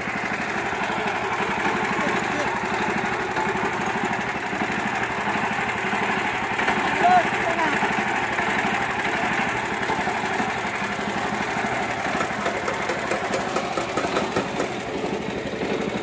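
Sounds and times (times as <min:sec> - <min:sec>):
tractor engine chugging: 0:00.0 - 0:16.0.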